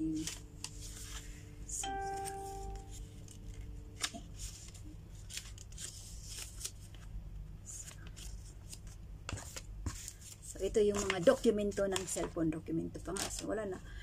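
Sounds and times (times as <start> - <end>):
paper rustling and crinkling: 0.0 - 12.4, 13.0 - 13.8
low steady hum: 0.0 - 14.0.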